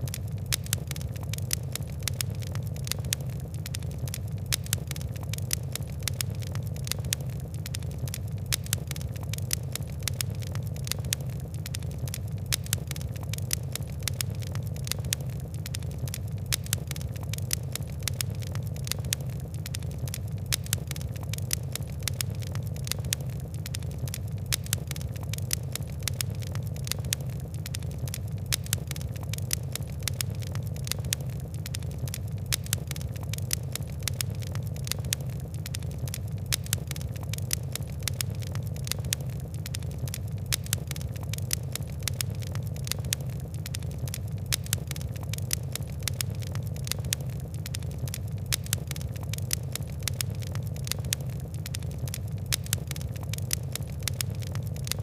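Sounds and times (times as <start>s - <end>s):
fire crackling: 0.0s - 55.0s.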